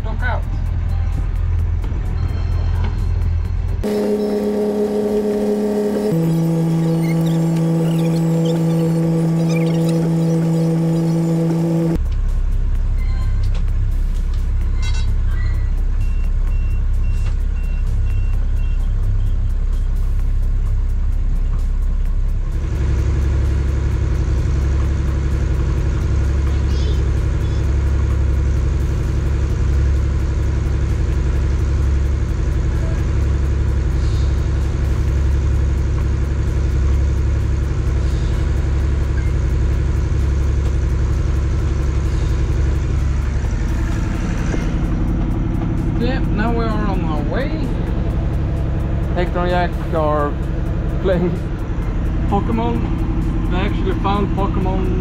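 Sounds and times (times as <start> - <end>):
boat diesel engine droning: 0.0 - 55.0.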